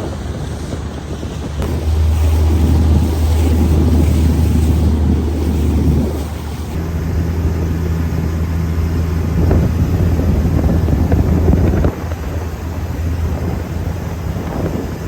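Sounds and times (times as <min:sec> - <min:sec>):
speed boat engine running: 0:00.0 - 0:15.0
wind rushing over microphone: 0:00.0 - 0:15.0.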